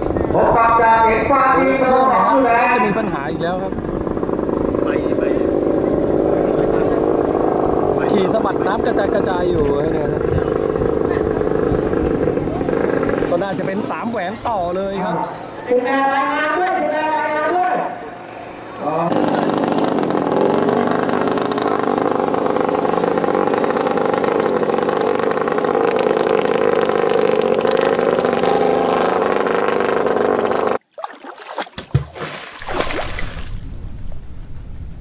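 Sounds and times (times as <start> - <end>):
boat engine running at high pitch: 0.0 - 30.8.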